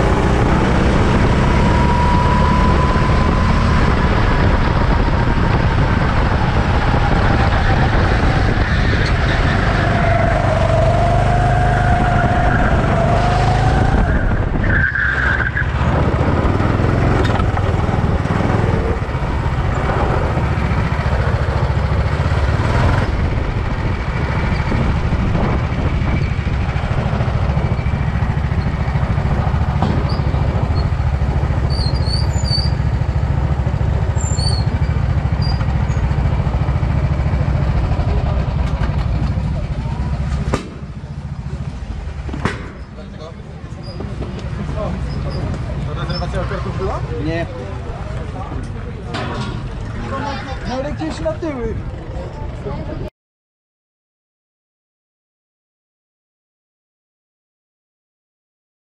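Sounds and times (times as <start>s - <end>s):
racing car engines: 0.0s - 53.1s.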